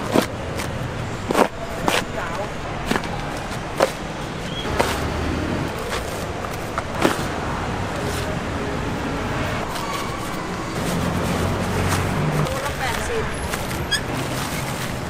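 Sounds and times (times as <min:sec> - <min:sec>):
background hubbub: 0:00.0 - 0:15.0
vehicle engine running: 0:00.0 - 0:15.0.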